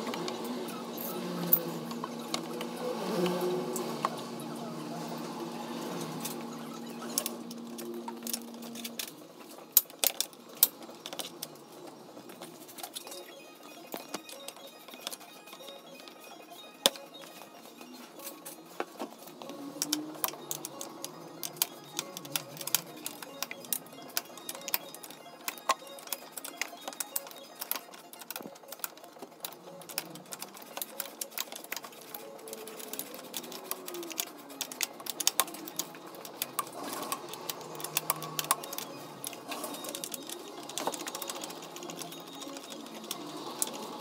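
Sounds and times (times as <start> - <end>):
quiet background music: 0.0 - 44.0.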